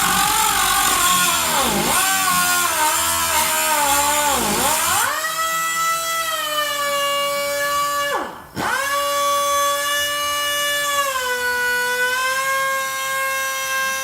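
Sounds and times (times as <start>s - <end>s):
cut-off tool whining: 0.0s - 14.0s.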